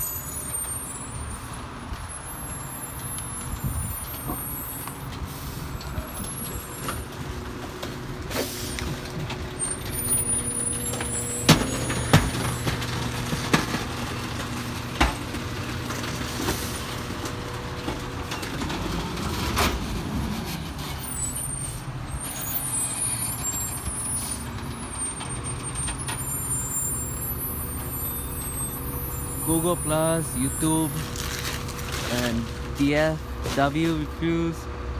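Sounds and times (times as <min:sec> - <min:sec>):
garbage truck engine running: 0:00.1 - 0:34.9.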